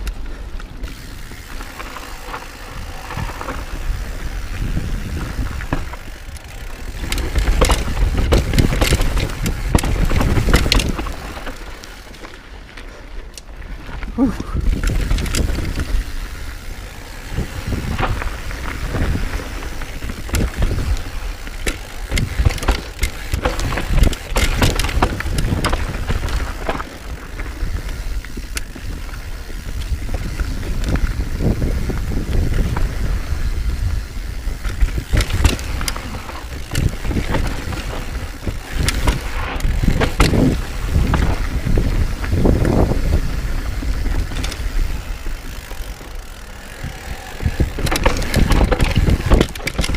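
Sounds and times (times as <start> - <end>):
wind rumbling on microphone: 0.0 - 12.1, 13.6 - 49.9
bike tyre noise on dirt: 0.0 - 49.9
bike rattling knocks: 0.8 - 12.4, 14.2 - 49.9.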